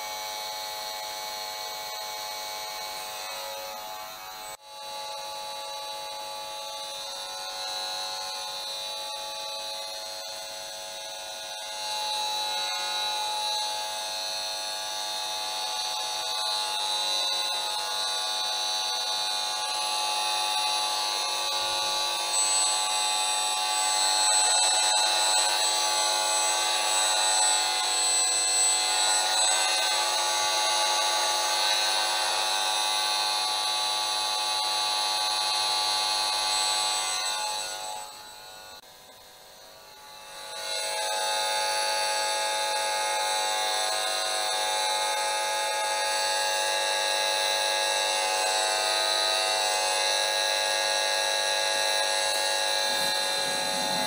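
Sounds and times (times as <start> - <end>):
meter buzzing tone: 0.0 - 54.0.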